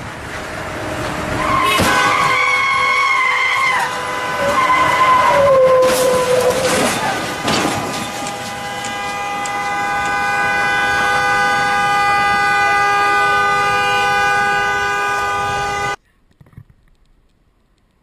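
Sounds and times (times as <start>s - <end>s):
vehicle horn blast: 1.4s - 16.0s.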